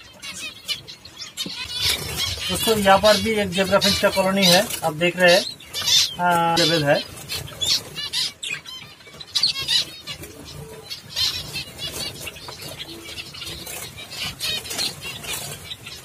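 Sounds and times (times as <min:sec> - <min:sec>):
finches chirping: 0:00.0 - 0:16.0.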